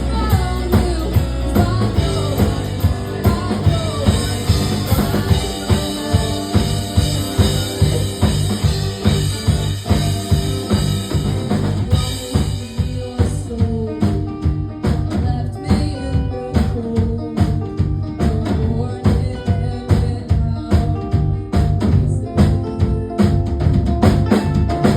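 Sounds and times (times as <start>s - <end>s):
rock band playing: 0.0s - 24.9s.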